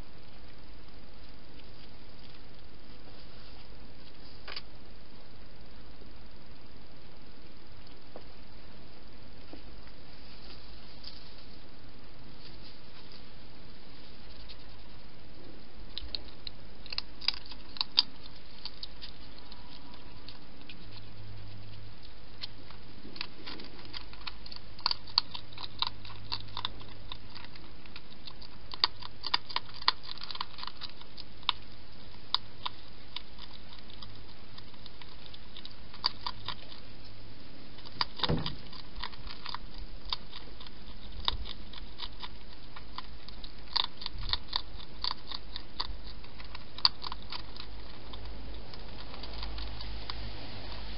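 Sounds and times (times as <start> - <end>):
hedgehog crunching food: 0.0 - 4.9, 7.4 - 50.9.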